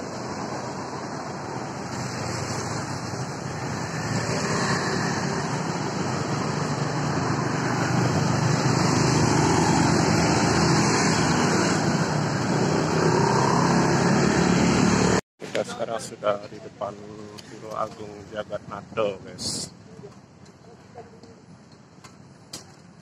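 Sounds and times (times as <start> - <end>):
car engines: 0.0 - 20.7
motorcycle engines: 0.0 - 23.0.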